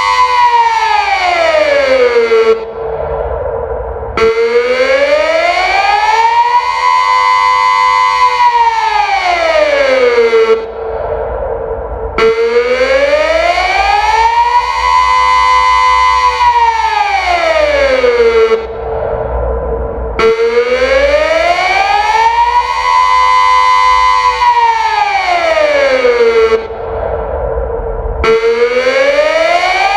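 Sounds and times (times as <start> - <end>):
wailing civil defence siren: 0.0 - 29.9.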